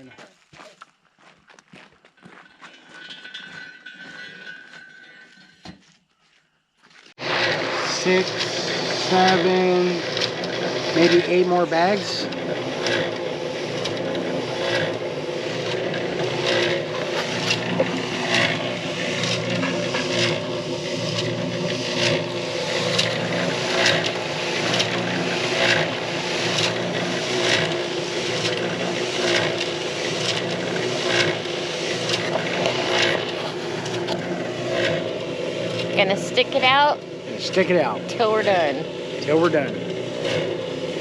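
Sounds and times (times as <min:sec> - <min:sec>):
concrete mixer running: 0:02.2 - 0:05.8, 0:07.1 - 0:41.0
concrete scraping in drum: 0:02.2 - 0:05.8, 0:07.2 - 0:41.0.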